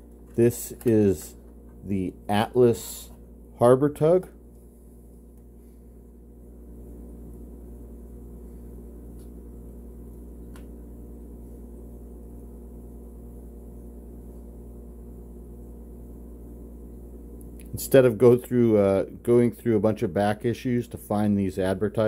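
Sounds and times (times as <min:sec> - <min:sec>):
low pulsing hum: 0:00.0 - 0:22.0.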